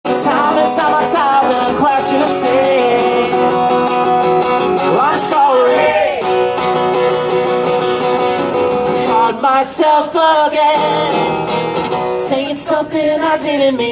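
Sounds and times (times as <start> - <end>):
man singing: 0.0 - 6.3, 8.9 - 13.9
acoustic guitar strumming: 0.0 - 12.9.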